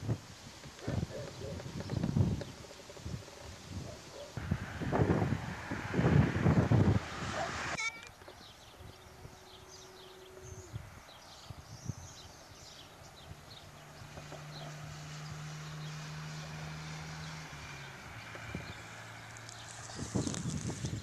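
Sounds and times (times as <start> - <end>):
small birds chirping: 0.6 - 4.4, 7.4 - 21.0.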